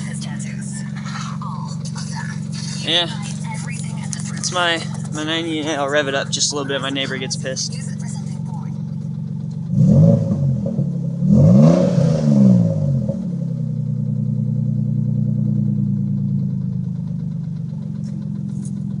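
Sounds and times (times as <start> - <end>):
car engine revving and idling: 0.0 - 19.0
engine ticking: 0.0 - 19.0.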